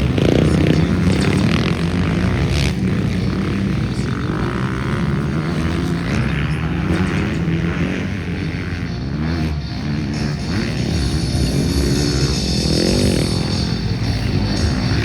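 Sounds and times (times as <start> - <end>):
motocross motorcycles revving: 0.0 - 15.0.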